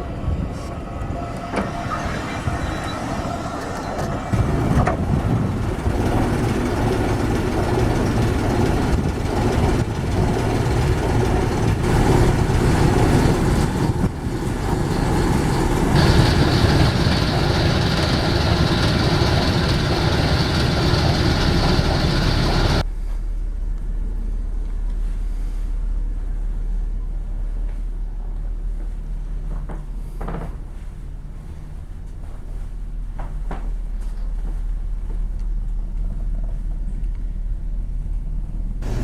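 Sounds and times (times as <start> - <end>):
train rumbling and rattling: 0.0 - 39.0.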